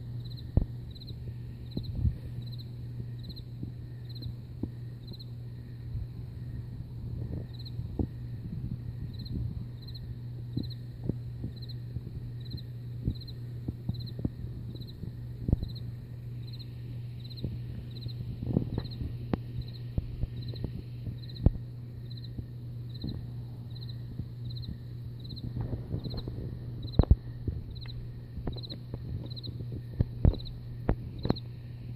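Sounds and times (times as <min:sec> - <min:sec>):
insect chirping: 0:00.0 - 0:31.5
low hum: 0:00.0 - 0:31.9.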